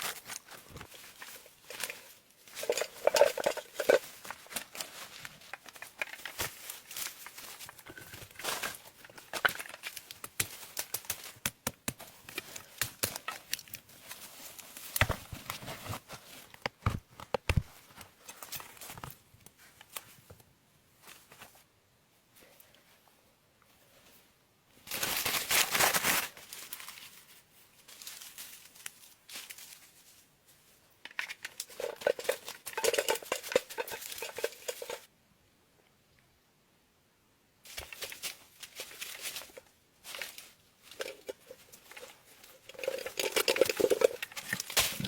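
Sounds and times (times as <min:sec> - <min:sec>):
material rustling and crinkling: 0:00.0 - 0:21.7, 0:22.3 - 0:35.1, 0:37.7 - 0:45.0.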